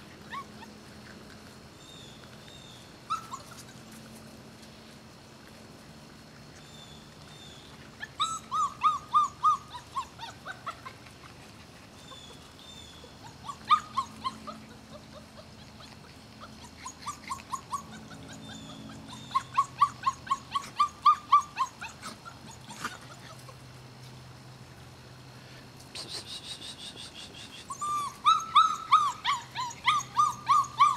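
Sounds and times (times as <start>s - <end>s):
puppies whimpering: 0.0s - 4.2s, 6.4s - 23.7s, 26.1s - 30.9s.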